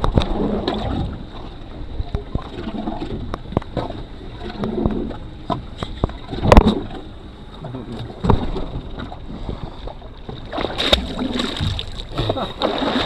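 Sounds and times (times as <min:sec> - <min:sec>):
knocks and thumps on boat: 0:00.0 - 0:13.0
water noise: 0:00.0 - 0:13.0
wind: 0:00.0 - 0:13.0.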